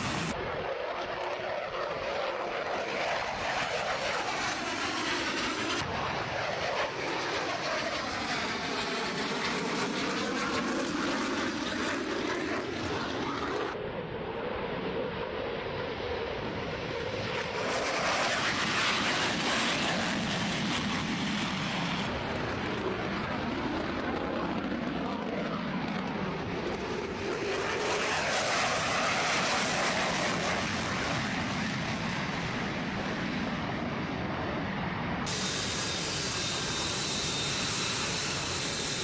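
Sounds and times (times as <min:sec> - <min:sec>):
jet engines roaring with hiss: 0:00.0 - 0:39.0.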